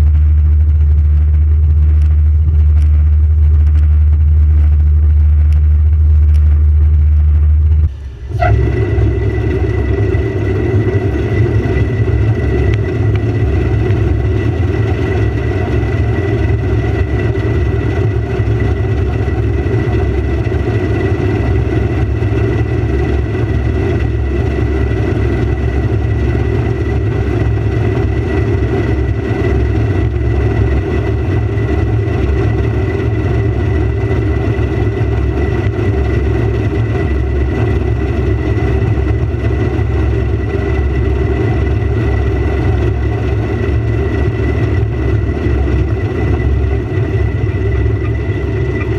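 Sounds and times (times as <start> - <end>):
combine harvester drone: 0.0 - 48.9.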